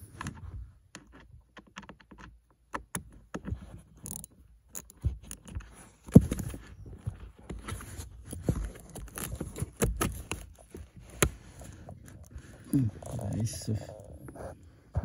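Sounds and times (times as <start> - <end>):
screwdriver clicking and scraping: 0.2 - 12.4.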